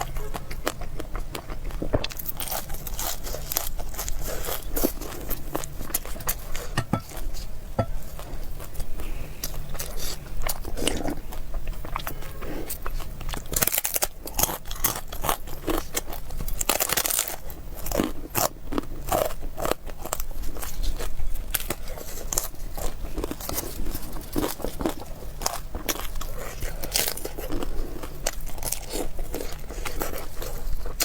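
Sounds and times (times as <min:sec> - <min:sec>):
crunchy chewing: 0:00.0 - 0:31.0.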